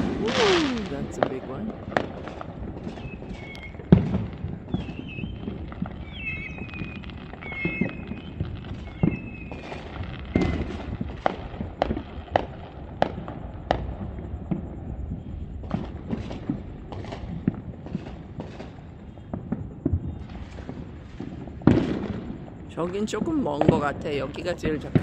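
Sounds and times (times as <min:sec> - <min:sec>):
distant fireworks bangs: 0:00.0 - 0:25.0.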